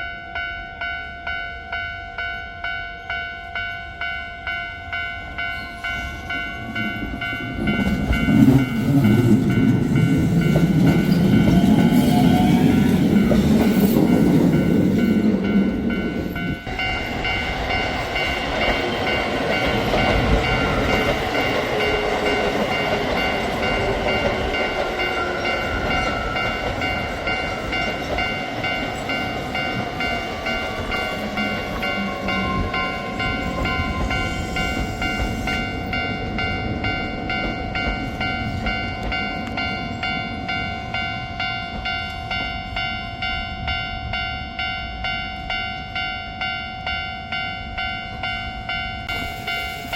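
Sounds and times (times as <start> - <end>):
level crossing bell ringing: 0.0 - 49.9.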